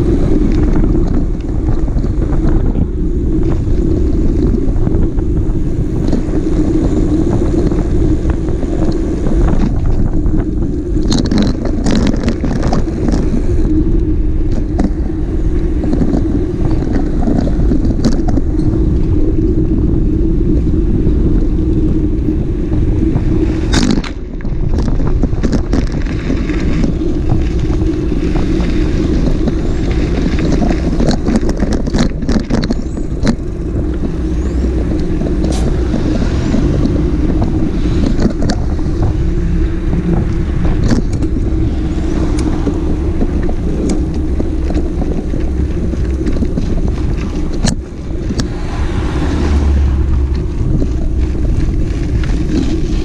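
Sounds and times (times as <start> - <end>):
motorcycle engine running: 0.0 - 53.0
wind buffeting microphone: 0.0 - 53.0.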